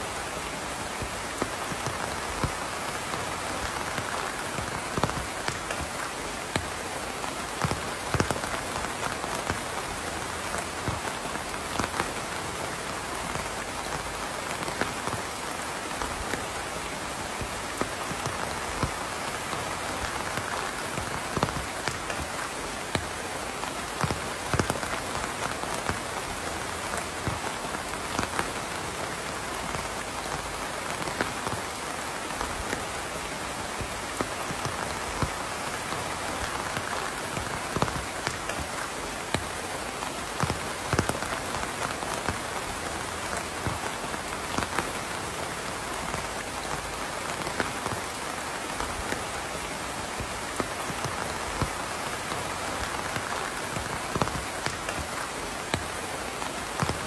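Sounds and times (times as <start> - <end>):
heavy raindrops tapping: 0.0 - 57.0
rain hissing: 0.0 - 57.0.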